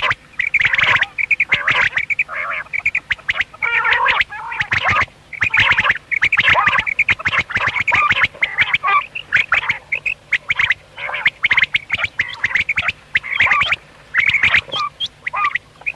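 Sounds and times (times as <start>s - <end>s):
quails calling: 0.0s - 15.9s.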